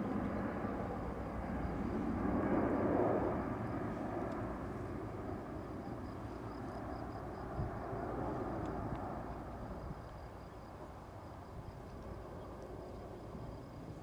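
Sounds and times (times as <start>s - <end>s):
distant turboprop aircraft drone: 0.0s - 14.0s.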